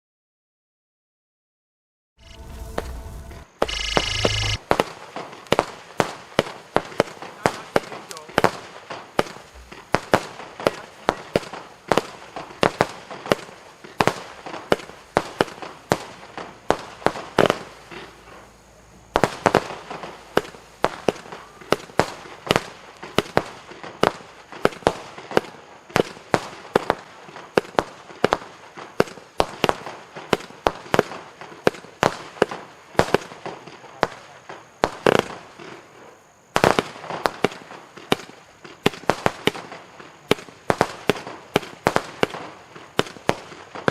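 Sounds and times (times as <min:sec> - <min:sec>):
fireworks firing sharp shots: 0:02.3 - 0:43.9.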